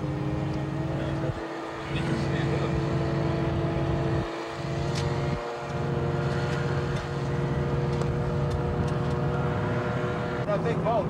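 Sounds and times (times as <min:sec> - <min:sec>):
boat motor droning: 0:00.0 - 0:11.0
wind: 0:00.0 - 0:11.0.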